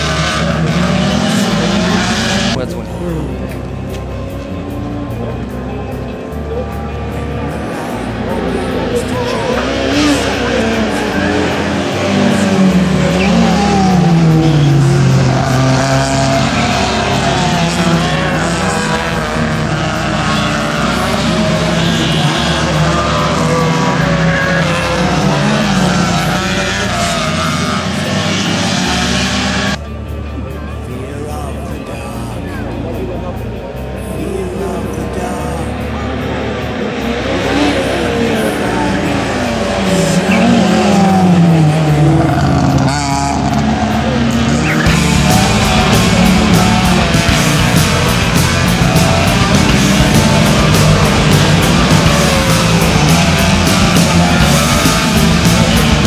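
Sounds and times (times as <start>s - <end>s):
race car engine passing: 0.0s - 56.0s.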